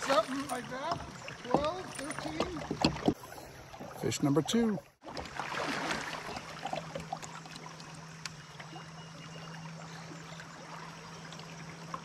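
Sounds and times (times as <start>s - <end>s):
river water swirling and trickling: 0.0s - 12.0s.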